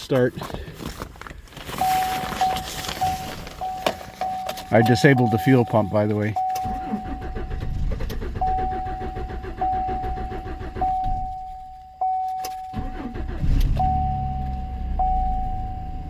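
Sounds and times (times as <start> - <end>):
engine cranking and running: 1.8 - 11.9, 12.6 - 16.0
dashboard warning chime: 1.8 - 16.0.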